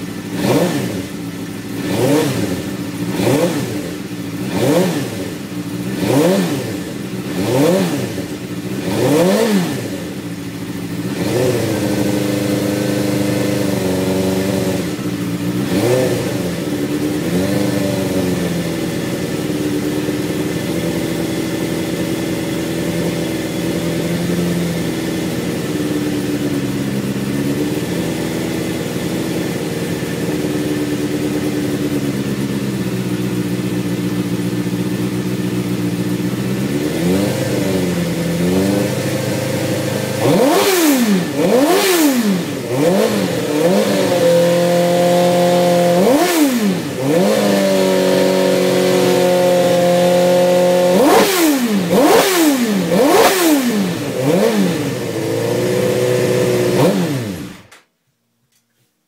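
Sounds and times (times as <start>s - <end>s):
engine revving: 0.0s - 57.8s
motorcycle engine idling: 0.0s - 57.8s.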